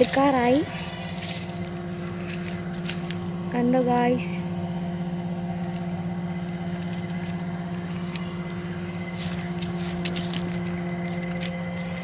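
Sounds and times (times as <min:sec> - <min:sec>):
steady machinery hum: 0:00.0 - 0:12.0.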